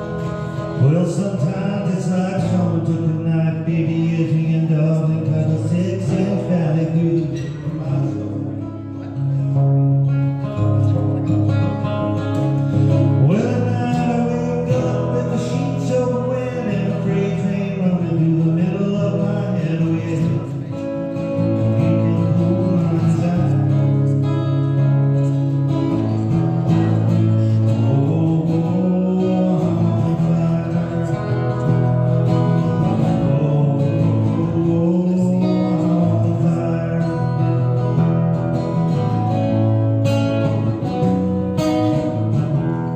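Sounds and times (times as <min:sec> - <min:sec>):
man singing: 0:00.0 - 0:09.6, 0:10.3 - 0:42.9
acoustic guitar strumming: 0:00.0 - 0:42.9.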